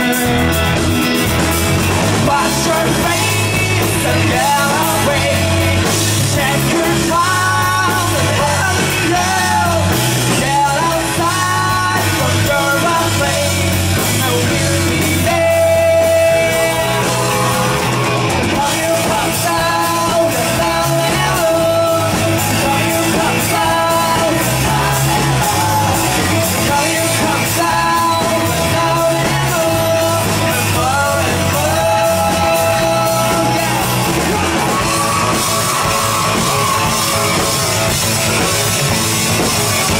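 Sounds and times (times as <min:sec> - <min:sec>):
person singing lead vocals: 0:00.0 - 0:39.9
rock band playing live: 0:00.0 - 0:39.9.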